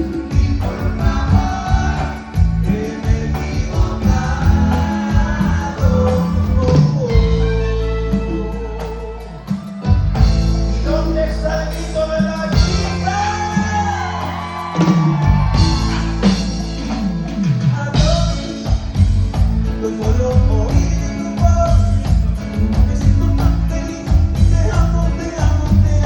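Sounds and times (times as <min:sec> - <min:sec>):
live band playing cumbia: 0:00.0 - 0:26.0
person singing: 0:00.0 - 0:26.0.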